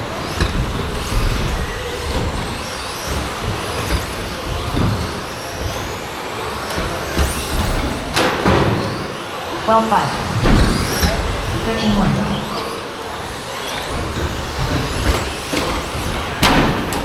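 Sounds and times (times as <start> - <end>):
rc truck motors whining: 0.0 - 17.0
tyre and drivetrain noise: 0.0 - 17.0.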